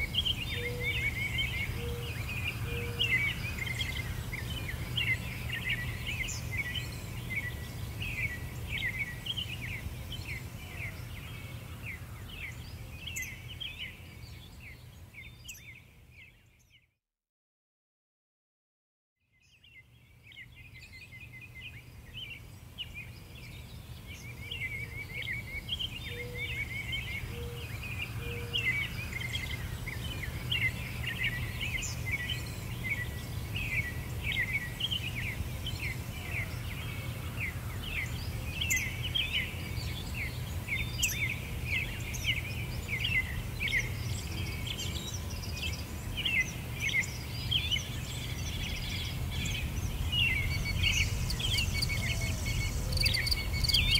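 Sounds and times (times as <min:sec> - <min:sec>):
small birds chirping: 0:00.0 - 0:16.9, 0:19.4 - 0:53.9.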